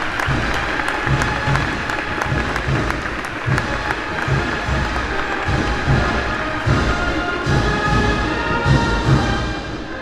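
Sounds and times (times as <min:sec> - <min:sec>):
bass drum beat: 0:00.0 - 0:09.3
held brass notes: 0:00.0 - 0:10.0.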